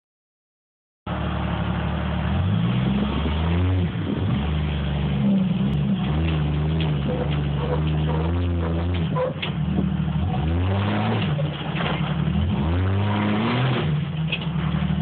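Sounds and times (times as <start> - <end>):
off-road vehicle engine revving: 1.1 - 15.0.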